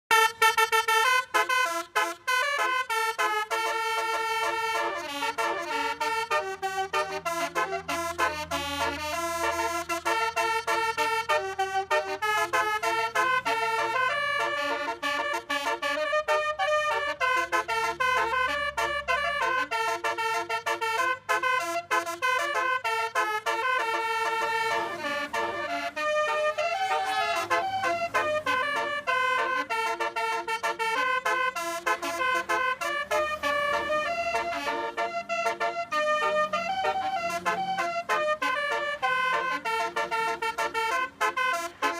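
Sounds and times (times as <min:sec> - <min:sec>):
musical vehicle horn playing tune: 0:00.1 - 0:41.9.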